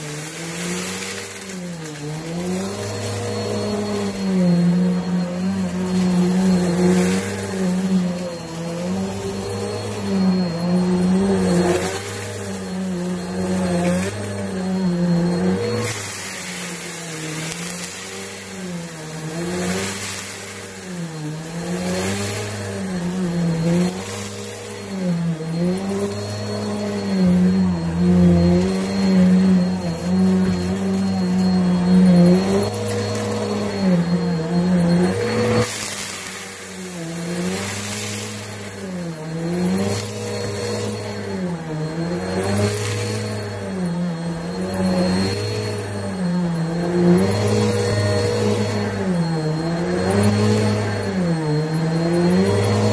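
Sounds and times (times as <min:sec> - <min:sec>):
vacuum cleaner running on carpet: 0:00.0 - 0:52.9.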